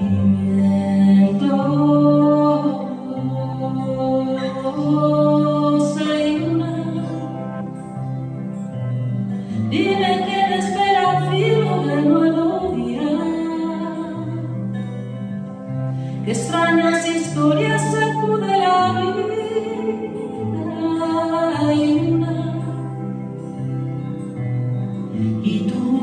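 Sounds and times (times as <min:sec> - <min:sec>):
woman singing slow song: 0:00.0 - 0:07.9, 0:09.5 - 0:14.9, 0:16.1 - 0:23.4, 0:25.1 - 0:26.0.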